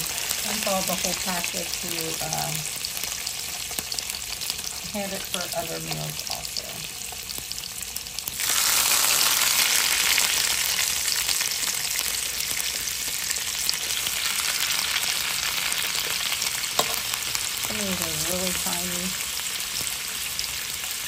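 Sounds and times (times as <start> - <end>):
chicken sizzling in oil: 0.0 - 21.0.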